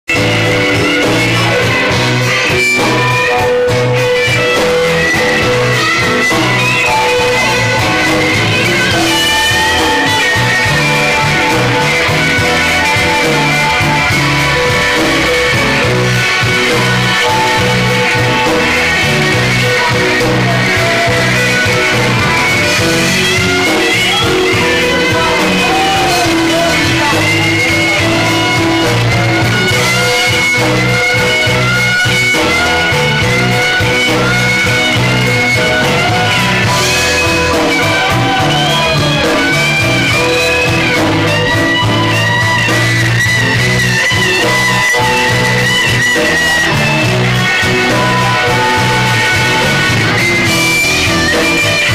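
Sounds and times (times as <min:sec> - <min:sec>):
harmonica: 0:00.1 - 0:51.9
live blues band playing: 0:00.1 - 0:51.9.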